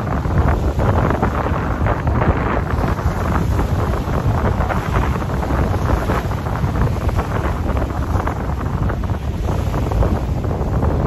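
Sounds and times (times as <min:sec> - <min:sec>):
waves splashing on rocky shore: 0:00.0 - 0:11.0
wind buffeting microphone: 0:00.0 - 0:11.0.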